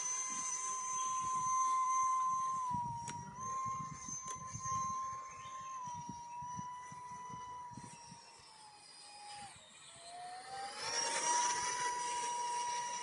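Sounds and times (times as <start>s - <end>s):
model plane fan whining: 0.0s - 13.0s.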